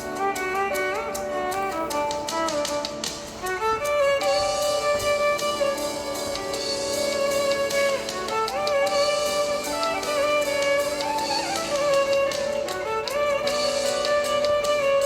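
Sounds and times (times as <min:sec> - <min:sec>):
light percussion: 0:00.0 - 0:15.0
violin melody: 0:00.0 - 0:15.0.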